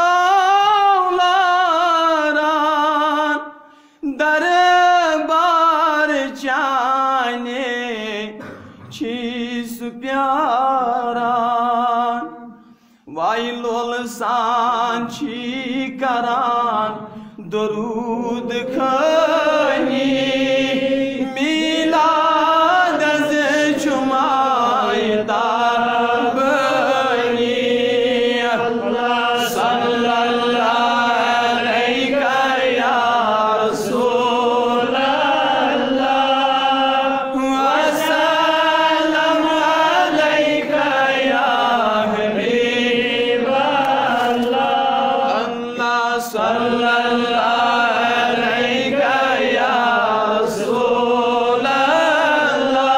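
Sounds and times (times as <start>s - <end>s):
man singing unaccompanied: 0.0s - 52.9s.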